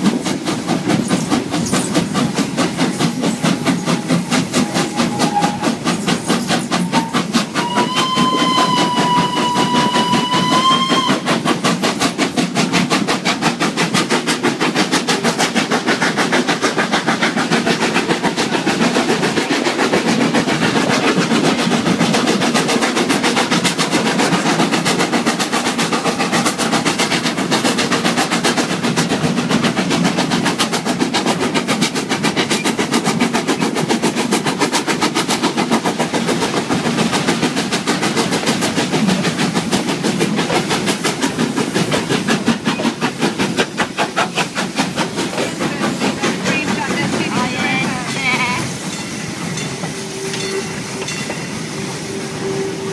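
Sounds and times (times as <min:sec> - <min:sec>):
wheels clattering on rails: 0:00.0 - 0:51.8
steam locomotive chuffing: 0:00.0 - 0:52.9.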